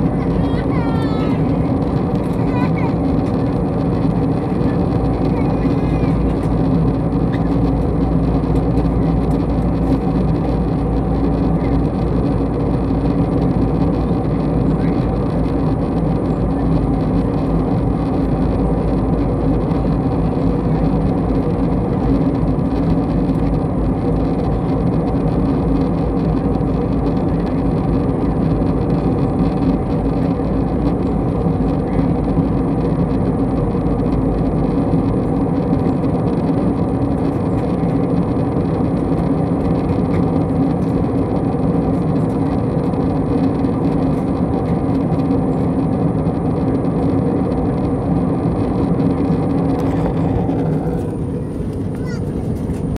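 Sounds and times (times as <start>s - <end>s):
aircraft engine noise: 0.0s - 52.9s
low hum of steady tones: 0.0s - 52.9s.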